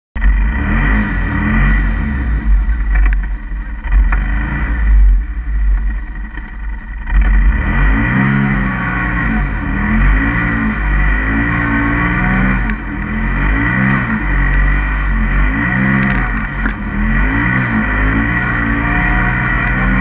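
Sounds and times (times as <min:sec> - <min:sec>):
engine revving: 0:00.2 - 0:20.0.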